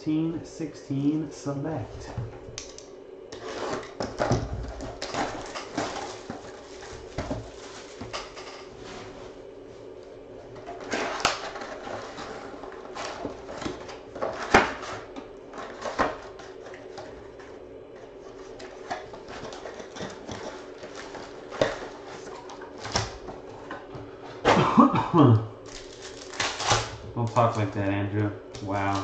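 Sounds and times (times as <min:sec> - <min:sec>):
cardboard and foil rustling: 0:03.4 - 0:09.4, 0:10.4 - 0:29.0.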